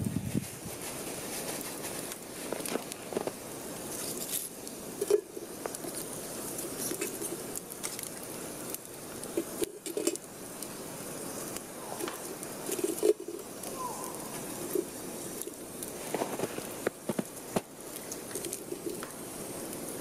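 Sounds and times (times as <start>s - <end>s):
steady hiss: 0.0s - 20.0s
stick raking embers: 0.0s - 20.0s.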